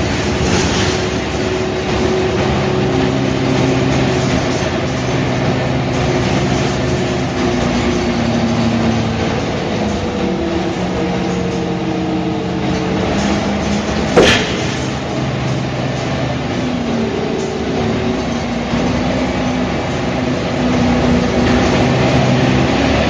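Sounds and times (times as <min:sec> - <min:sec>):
bus engine running: 0:00.0 - 0:23.0.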